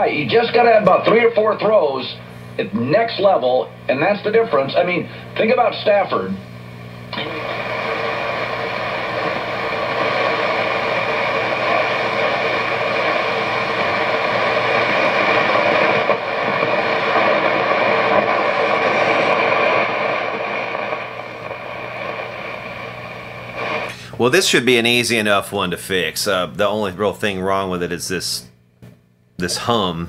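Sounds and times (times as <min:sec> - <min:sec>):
radio static hiss: 0:00.0 - 0:30.0
steady hum tones: 0:00.0 - 0:30.0.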